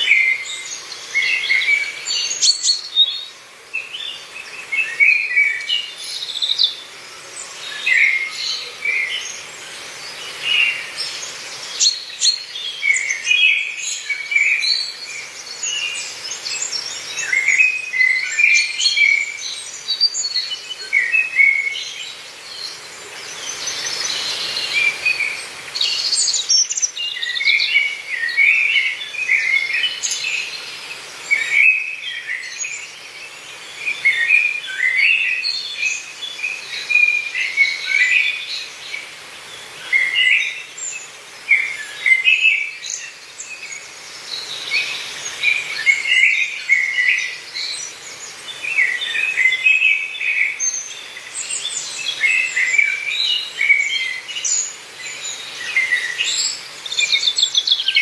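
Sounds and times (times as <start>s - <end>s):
forest ambience hiss: 0.0s - 58.0s
songbirds singing and chirping: 0.0s - 58.0s.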